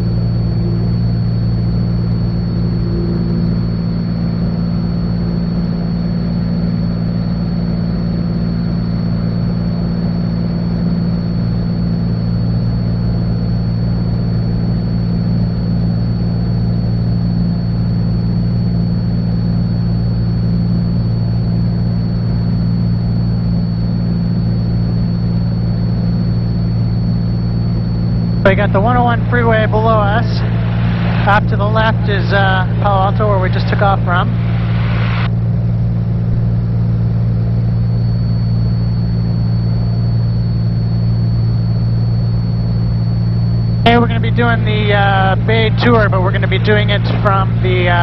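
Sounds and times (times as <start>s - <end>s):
propeller plane engine droning: 0.0s - 48.0s.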